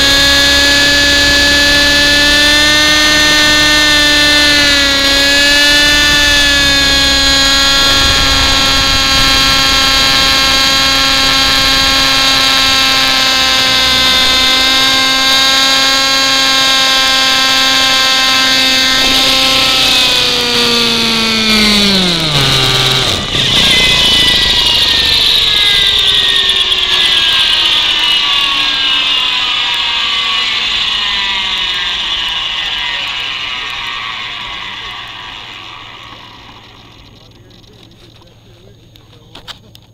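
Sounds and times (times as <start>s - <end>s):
model helicopter engine and rotors: 0.0s - 39.9s.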